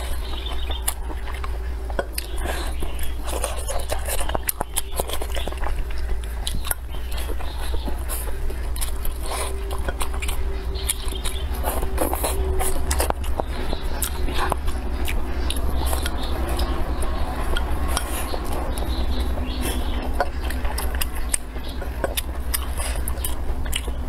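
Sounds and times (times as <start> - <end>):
low hum: 0.0 - 24.0
mouth clicks: 0.0 - 24.0
person chewing and biting: 0.0 - 24.0.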